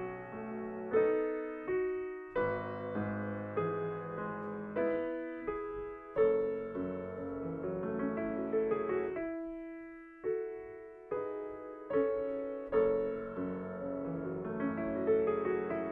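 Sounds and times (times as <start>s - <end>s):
slow classical piano: 0.0s - 15.9s.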